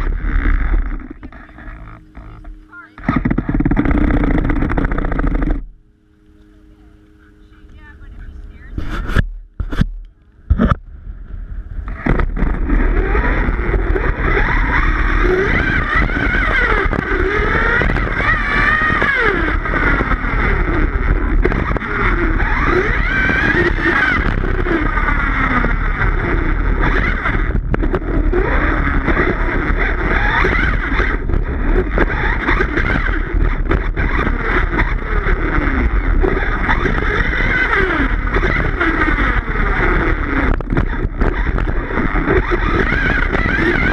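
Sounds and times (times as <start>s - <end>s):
electric toy truck motor whine: 0.0s - 5.7s, 11.9s - 43.9s.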